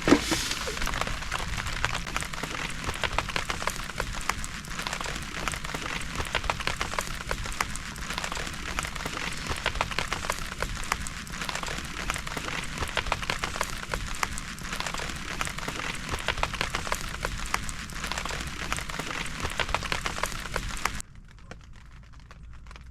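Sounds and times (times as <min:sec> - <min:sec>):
heavy rain: 0:00.0 - 0:22.9.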